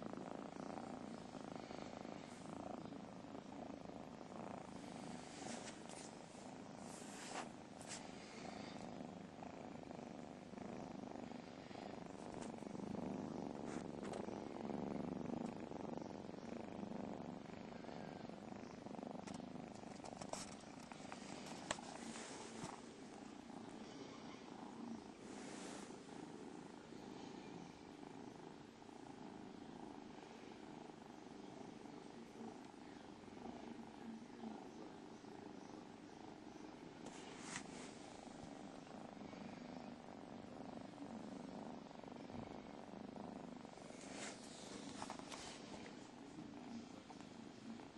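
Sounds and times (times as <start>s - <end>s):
cats purring: 0.0s - 47.9s.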